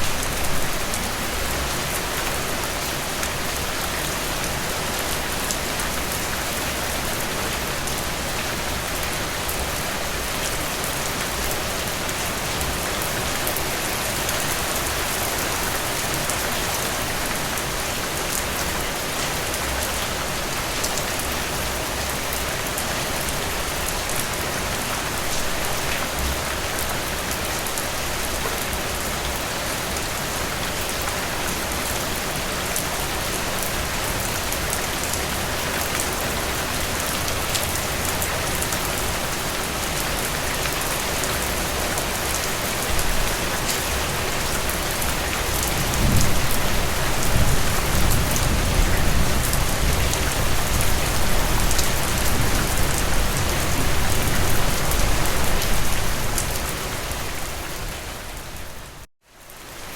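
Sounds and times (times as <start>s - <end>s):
heavy rain on a hard surface: 0.0s - 59.9s.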